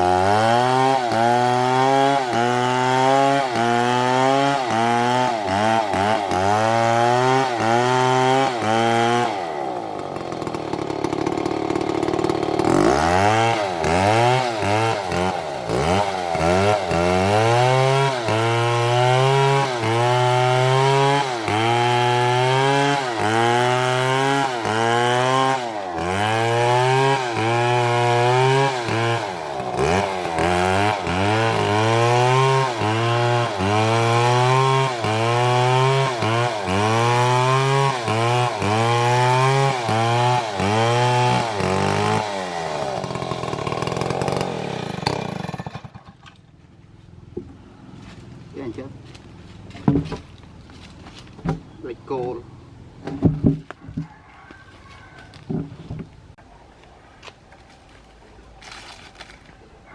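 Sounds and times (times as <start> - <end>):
chainsaw cutting wood: 0.0 - 46.5, 49.1 - 52.4, 53.0 - 56.2, 58.6 - 59.5.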